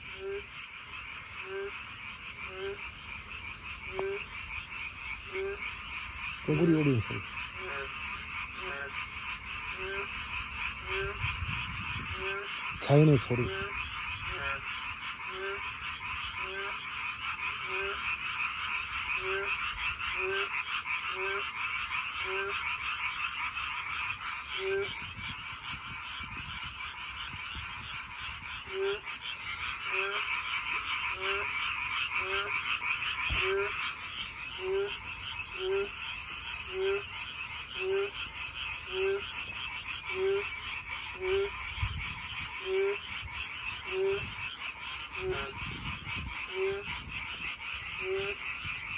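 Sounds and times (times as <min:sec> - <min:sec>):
frog chorus trilling: 0:00.0 - 0:48.9
low frog croak: 0:00.0 - 0:48.9.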